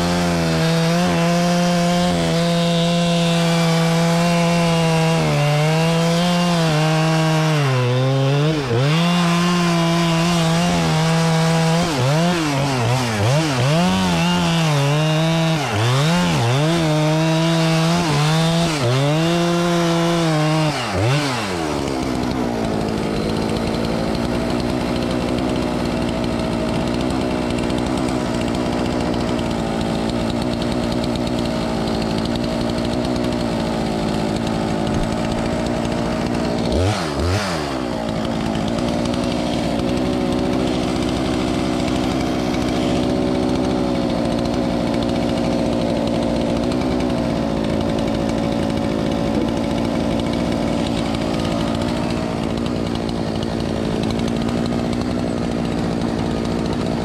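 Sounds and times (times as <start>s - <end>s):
chainsaw cutting a tree: 0.0s - 57.0s.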